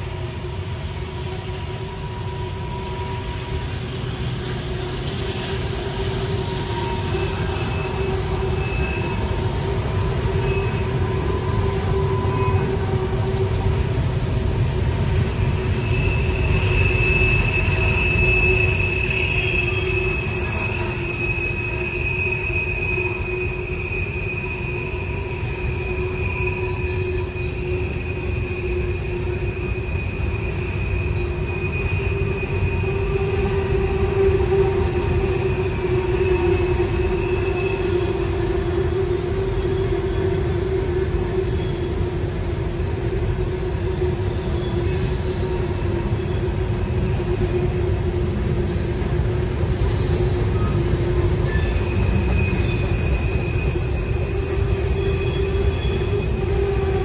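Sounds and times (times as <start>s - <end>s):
steel wheels rumbling on rail: 0.0s - 57.0s
wheel flange squealing: 0.1s - 57.0s.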